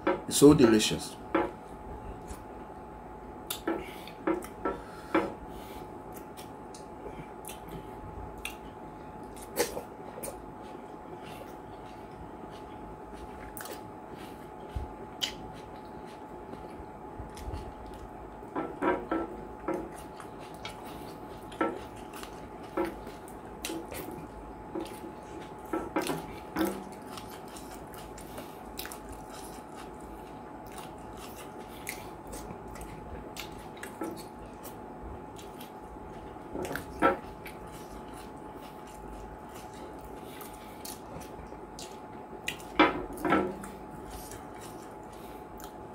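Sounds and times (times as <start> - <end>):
faint steady hum: 0.0 - 45.9
wet eating smacks and chewing: 3.4 - 4.6, 6.1 - 45.9.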